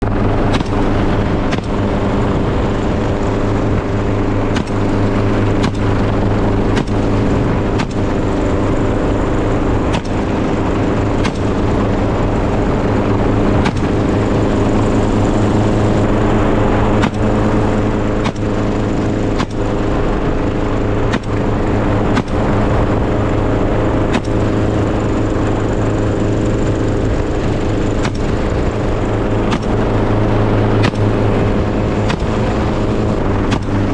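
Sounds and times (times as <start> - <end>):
engine drone: 0.0 - 33.9.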